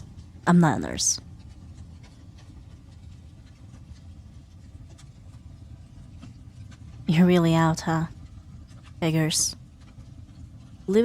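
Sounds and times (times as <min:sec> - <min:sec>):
fireplace crackling: 0:00.0 - 0:11.0.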